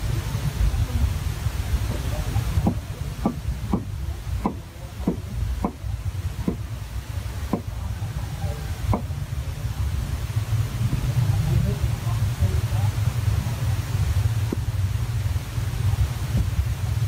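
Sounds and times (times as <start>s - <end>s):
fire low rumble: 0.0s - 17.0s.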